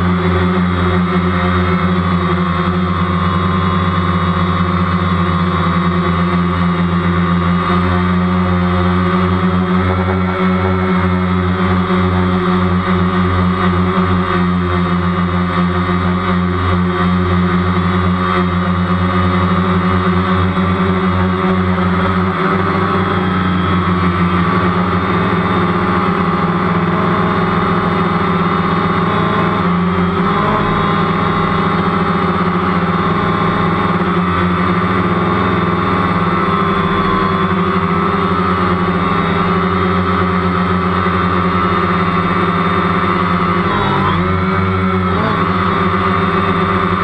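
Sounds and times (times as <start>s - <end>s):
drone propellers buzzing: 0.0s - 47.0s.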